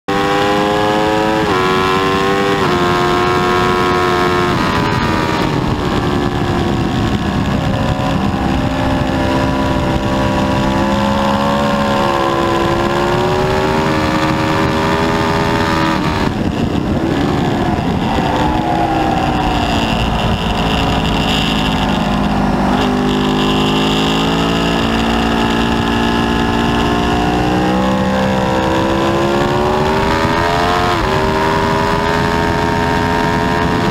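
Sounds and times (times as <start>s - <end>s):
motorcycle engine accelerating: 0.1s - 33.9s
wind noise: 0.1s - 33.9s.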